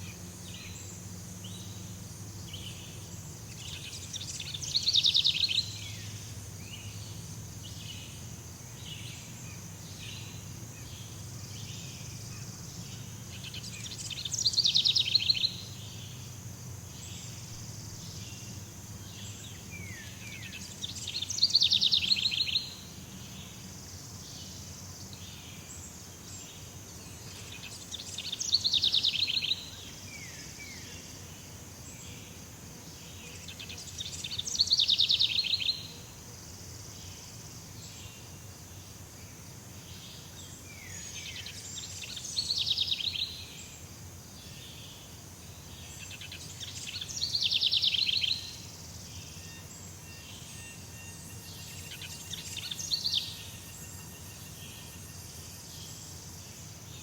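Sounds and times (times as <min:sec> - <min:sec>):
high insect hum: 0:00.0 - 0:57.0.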